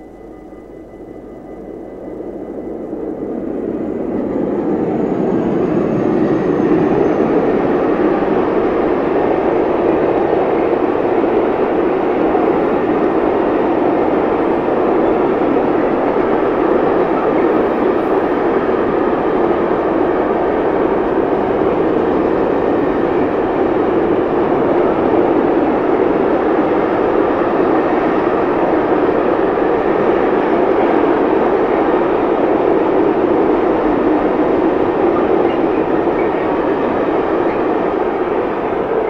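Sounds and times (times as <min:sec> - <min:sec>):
train wheels running on rails: 0:00.0 - 0:39.0.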